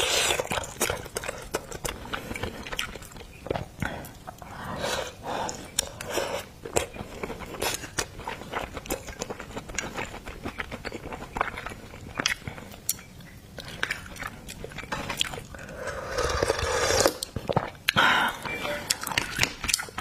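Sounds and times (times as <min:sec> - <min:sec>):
wet chewing: 0:00.0 - 0:04.5, 0:05.4 - 0:18.0.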